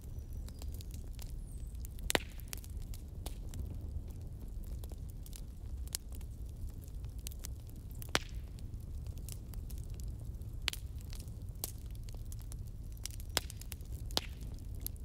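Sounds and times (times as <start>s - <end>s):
fire crackles and pops: 0.0s - 15.0s
fire rumbling: 0.0s - 15.0s.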